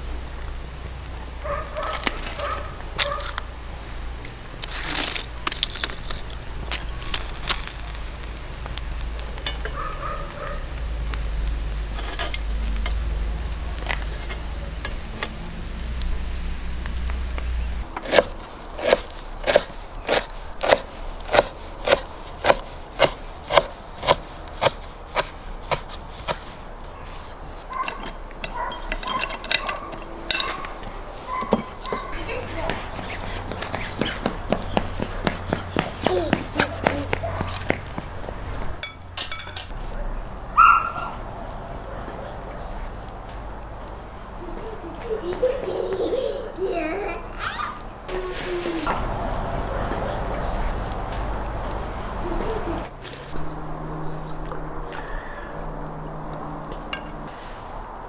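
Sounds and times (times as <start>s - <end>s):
fish sizzling over charcoal: 0.0s - 37.6s, 48.0s - 58.0s.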